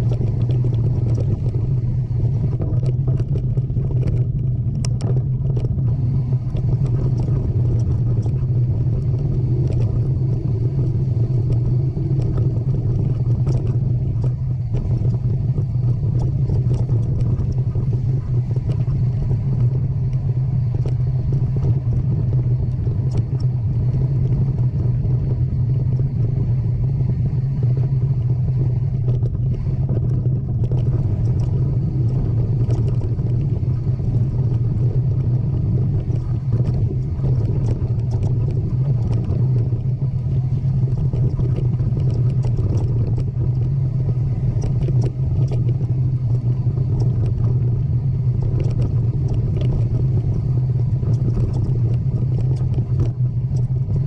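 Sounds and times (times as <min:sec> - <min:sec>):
small rattling clicks: 0:00.0 - 0:25.1, 0:27.7 - 0:54.0
low rumble: 0:00.0 - 0:54.0.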